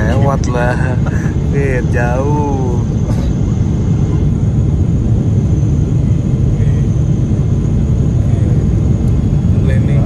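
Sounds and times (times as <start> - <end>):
jet engines roaring in cabin: 0.0 - 10.0.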